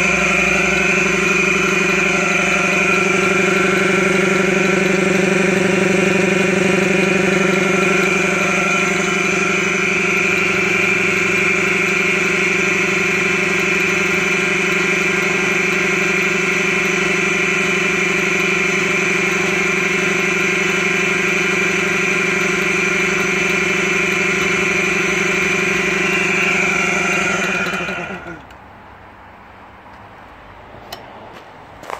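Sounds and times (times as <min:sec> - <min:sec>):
air compressor running: 0:00.0 - 0:28.5.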